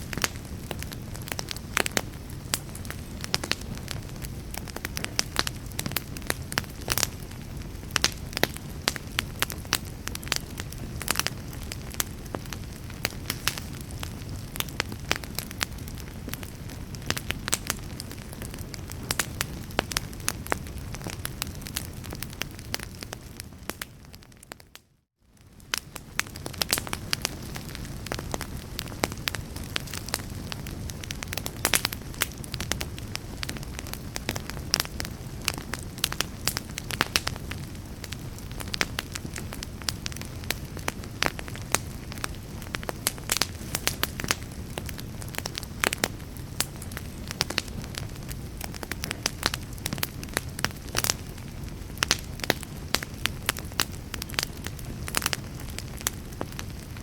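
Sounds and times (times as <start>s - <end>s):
sharp pops of fire: 0.0s - 24.2s, 25.4s - 57.0s
low rush of flames: 0.0s - 24.7s, 25.3s - 57.0s
wood fire crackling: 0.0s - 57.0s.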